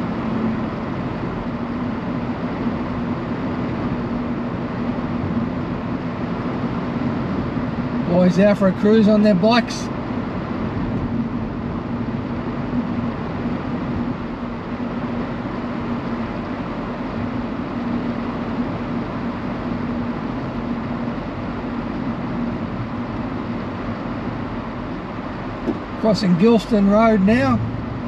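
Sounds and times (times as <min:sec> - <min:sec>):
car road and tyre noise: 0:00.0 - 0:28.0
steady low hum: 0:00.0 - 0:28.0.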